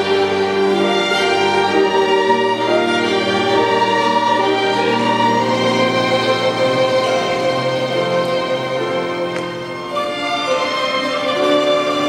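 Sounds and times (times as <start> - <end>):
grand piano accompaniment: 0.0 - 12.0
violin ensemble playing slow melody: 0.0 - 12.0.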